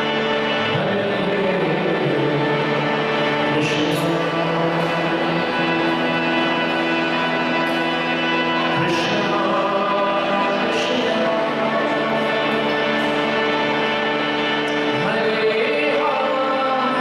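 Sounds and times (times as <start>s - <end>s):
harmonium chords: 0.0s - 17.0s.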